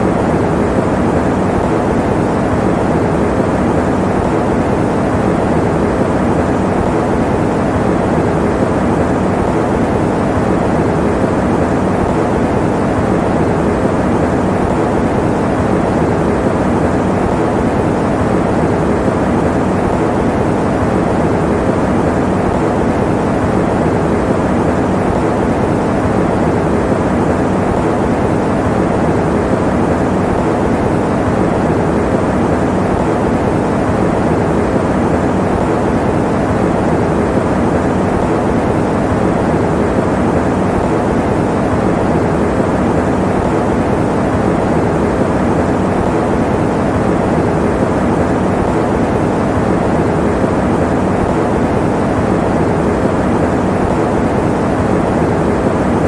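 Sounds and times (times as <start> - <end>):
electric fan running: 0.0 - 56.0.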